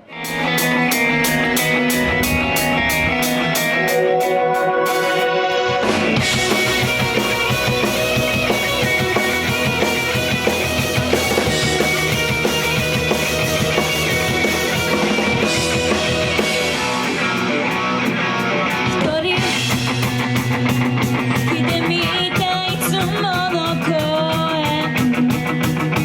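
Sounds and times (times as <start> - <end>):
loud rock music: 0.0 - 26.0.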